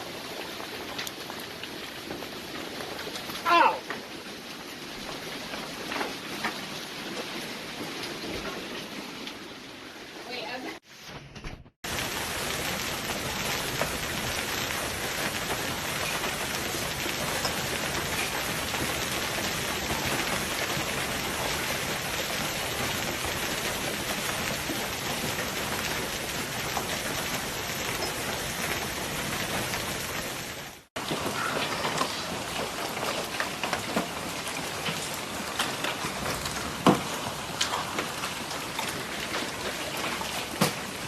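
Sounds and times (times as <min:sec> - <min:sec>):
heavy rain and hail pelting: 0:00.0 - 0:10.8, 0:11.8 - 0:41.0.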